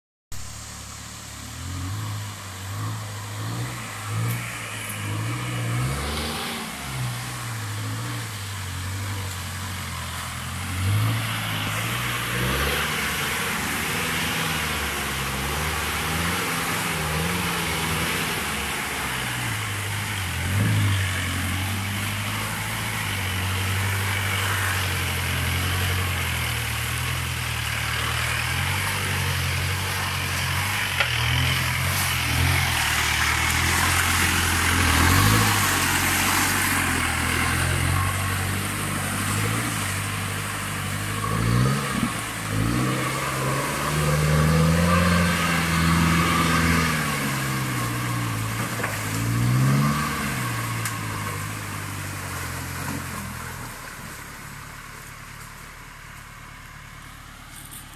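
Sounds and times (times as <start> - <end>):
diesel engine revving: 0.3 - 57.9.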